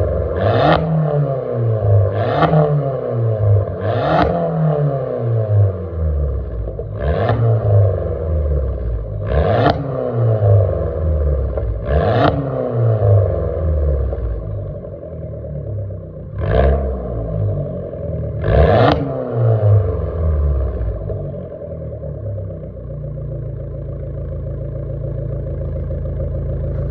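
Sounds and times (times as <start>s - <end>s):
car engine revving and idling: 0.0s - 26.9s.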